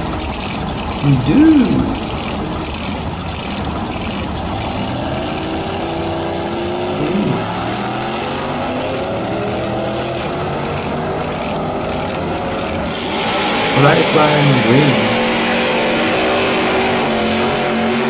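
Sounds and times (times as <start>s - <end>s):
drag car engine accelerating: 0.0s - 18.0s.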